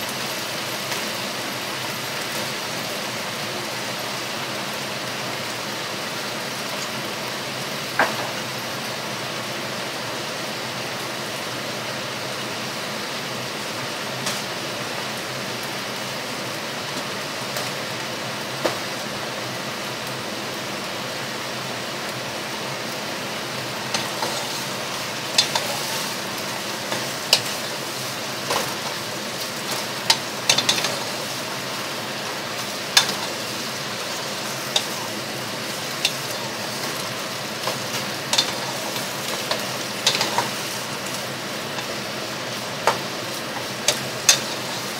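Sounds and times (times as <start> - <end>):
vegetables sizzling in a pot: 0.0 - 44.9.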